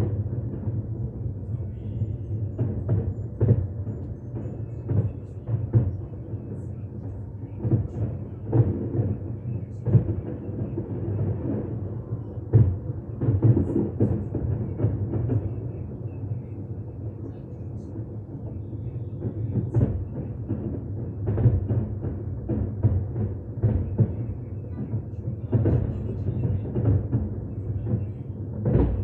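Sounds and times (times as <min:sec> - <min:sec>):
fireworks booming and crackling: 0:00.0 - 0:29.0.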